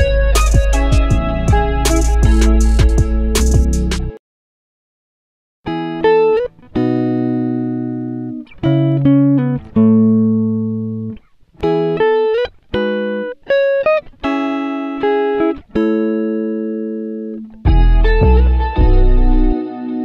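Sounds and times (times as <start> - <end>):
plucked guitar notes: 0.0 - 4.2, 5.7 - 20.0.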